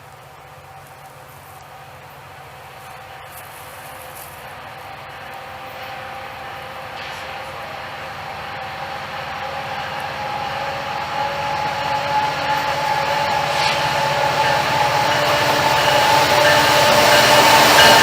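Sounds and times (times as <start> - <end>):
steady whine of held tones: 0.0 - 18.0
train rumble: 0.0 - 18.0.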